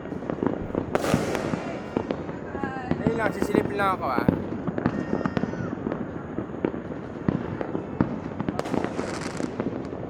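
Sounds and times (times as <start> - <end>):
fireworks crackling and banging: 0.0 - 10.0.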